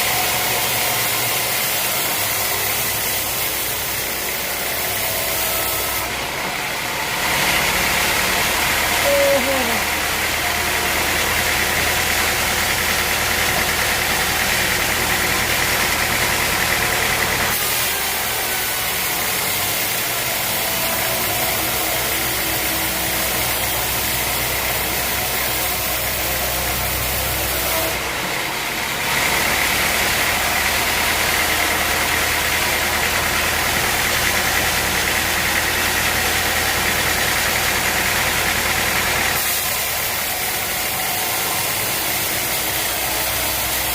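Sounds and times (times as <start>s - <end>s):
sawmill machinery droning: 0.0s - 43.9s.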